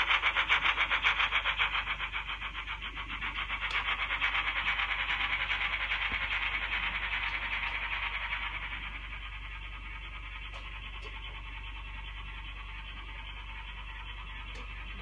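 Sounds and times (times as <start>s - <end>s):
steam locomotive chuffs: 0.0s - 15.0s.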